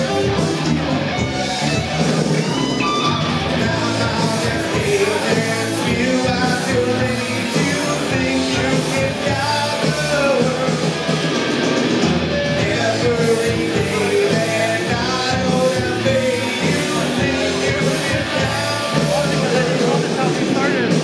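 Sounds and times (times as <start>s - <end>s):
drums: 0.0s - 21.0s
electric guitars: 0.0s - 21.0s
person singing: 2.2s - 11.2s, 11.8s - 21.0s.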